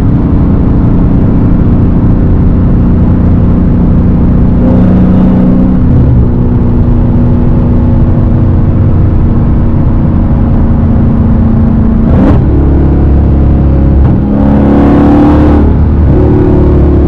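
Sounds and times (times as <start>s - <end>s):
loud car engine running: 0.0s - 17.0s.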